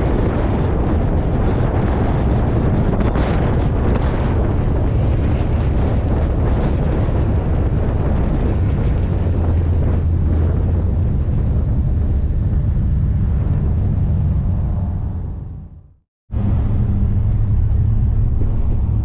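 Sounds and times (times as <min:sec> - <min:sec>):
truck engine drone: 0:00.0 - 0:19.0
wind buffeting microphone: 0:00.0 - 0:19.0.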